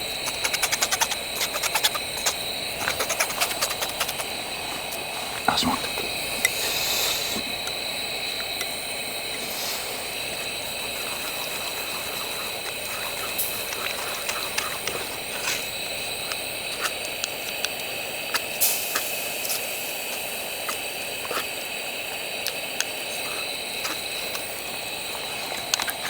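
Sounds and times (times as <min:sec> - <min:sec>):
pot simmering hiss: 0:00.0 - 0:26.0.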